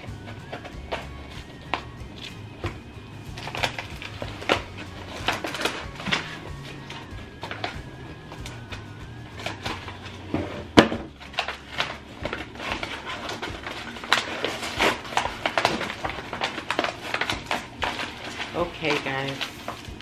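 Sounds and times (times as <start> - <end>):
packaging being cut: 0.0 - 20.0
paper crinkling and rustling: 0.0 - 20.0.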